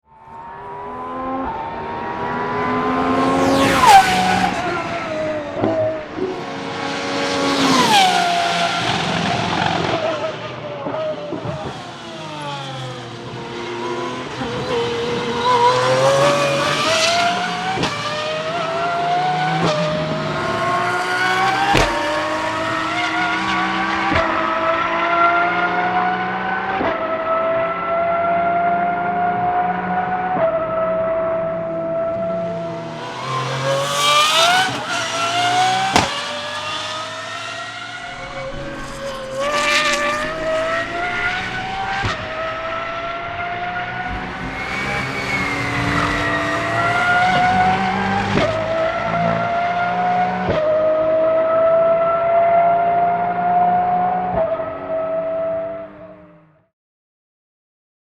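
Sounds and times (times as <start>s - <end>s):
racing car engine revving: 0.3s - 56.3s.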